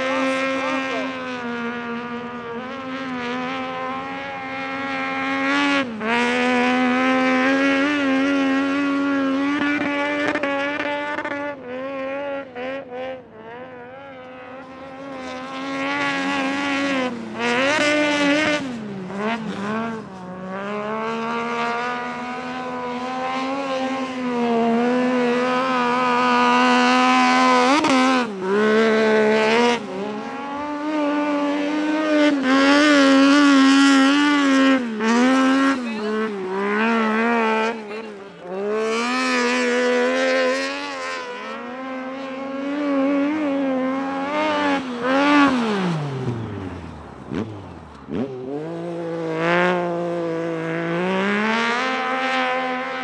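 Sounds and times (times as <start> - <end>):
motorcycle engine revving hard: 0.0 - 53.0.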